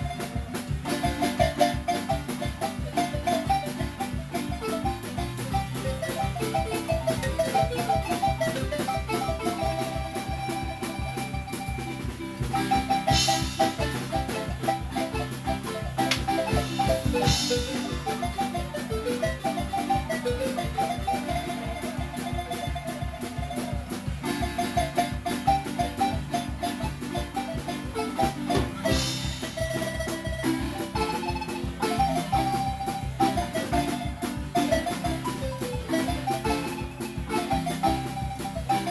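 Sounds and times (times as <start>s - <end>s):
marimba music: 0.0s - 38.9s.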